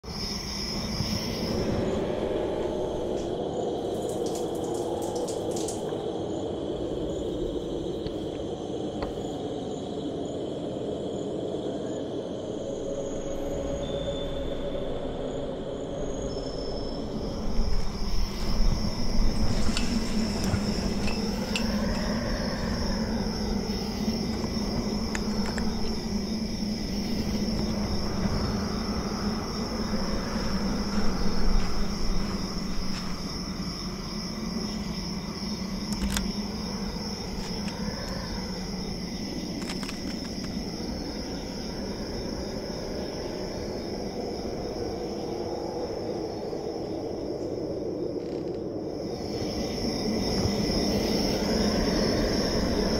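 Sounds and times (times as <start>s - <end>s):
crickets trilling: 0.0s - 52.9s
wind gusts: 0.0s - 52.9s.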